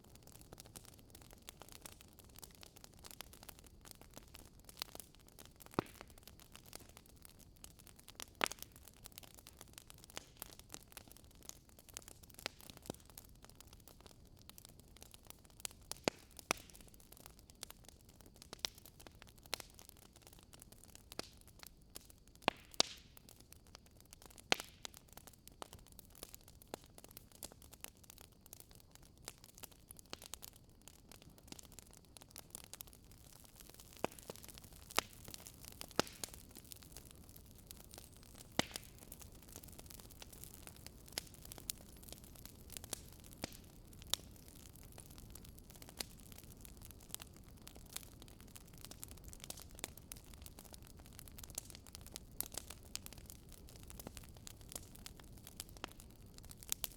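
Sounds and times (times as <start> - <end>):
logs crackling and popping: 0.0 - 56.9.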